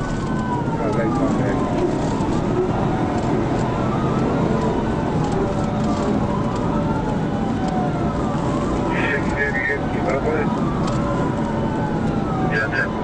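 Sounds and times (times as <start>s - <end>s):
police siren wailing: 0.0s - 13.0s
road and wind noise: 0.0s - 13.0s.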